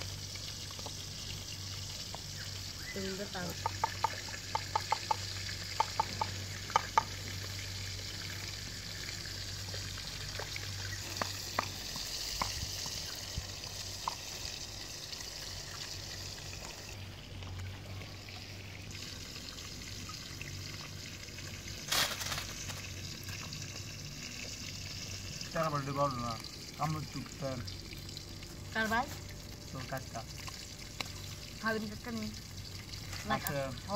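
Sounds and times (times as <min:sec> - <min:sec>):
rustle: 0:00.0 - 0:26.0, 0:28.4 - 0:33.9
fish sizzling in oil: 0:00.0 - 0:33.9.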